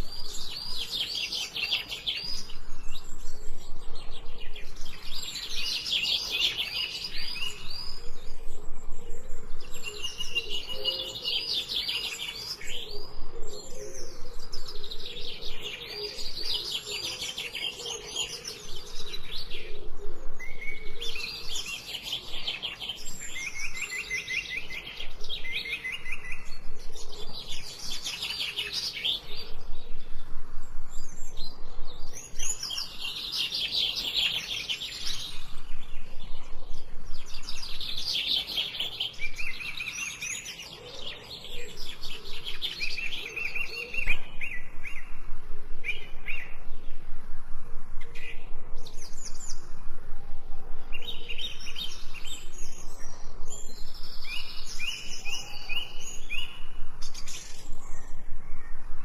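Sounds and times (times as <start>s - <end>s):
songbirds trilling and chirping: 0.0s - 59.0s.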